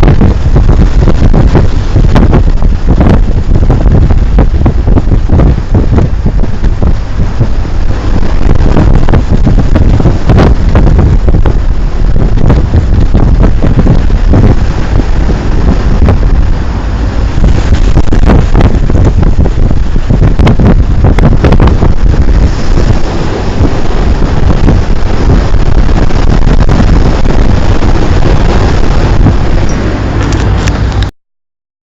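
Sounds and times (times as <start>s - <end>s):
ship moving through rough sea: 0.0s - 31.1s
wind buffeting microphone: 0.0s - 31.1s.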